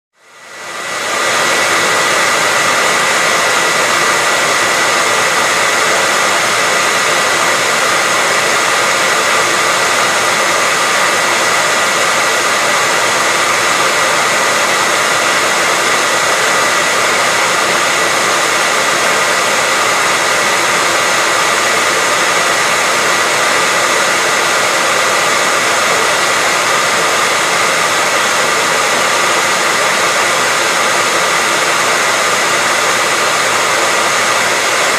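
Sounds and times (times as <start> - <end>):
hair dryer running: 0.2 - 34.9.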